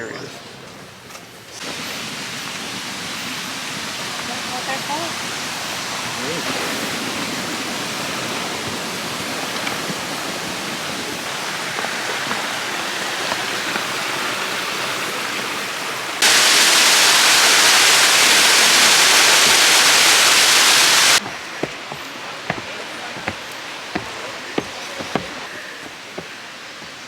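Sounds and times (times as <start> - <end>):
waterfall rushing: 1.6 - 27.0.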